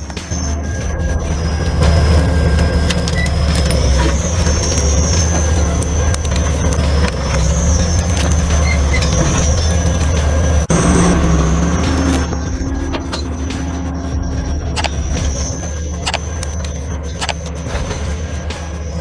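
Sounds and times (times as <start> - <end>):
heavy machine engine under load: 0.0 - 19.0
high wavering whine: 0.0 - 19.0.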